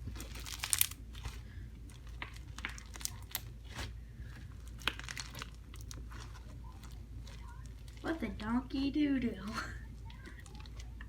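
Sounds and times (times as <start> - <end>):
foam slime crunchy crackles: 0.0 - 11.0.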